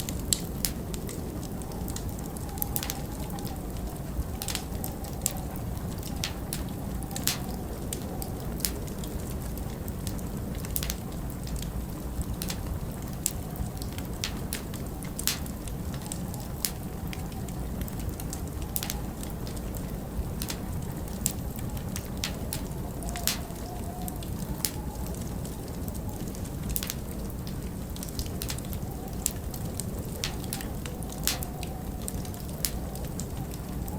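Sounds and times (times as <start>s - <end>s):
blizzard wind rushing: 0.0s - 33.9s
wood fire crackling and popping: 0.0s - 33.9s.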